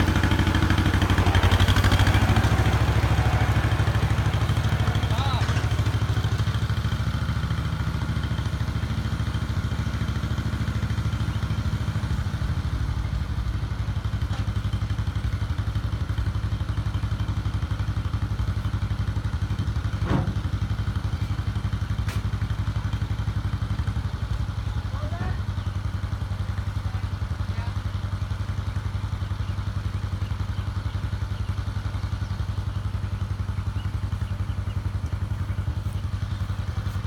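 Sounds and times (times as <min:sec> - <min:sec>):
old engine pulsing steadily: 0:00.0 - 0:37.0.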